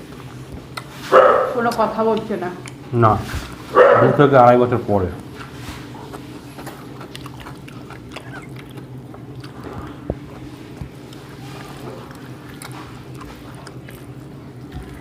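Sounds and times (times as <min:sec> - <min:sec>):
chewing and lip smacks: 0:00.0 - 0:03.7, 0:05.2 - 0:15.0
steady low hum: 0:00.0 - 0:15.0.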